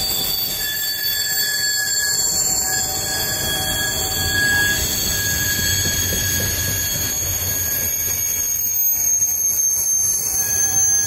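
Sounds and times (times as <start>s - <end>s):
train wheels rumbling on rail: 0.0s - 11.0s
wheel squeal: 0.0s - 11.0s.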